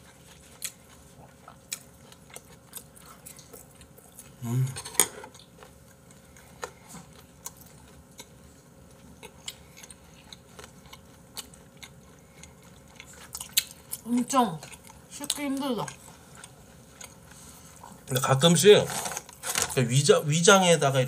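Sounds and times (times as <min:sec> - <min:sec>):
chewing: 0:00.0 - 0:18.2.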